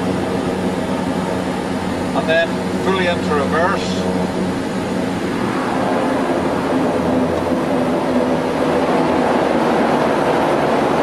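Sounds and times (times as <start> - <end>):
turboprop engines droning: 0.0 - 11.0.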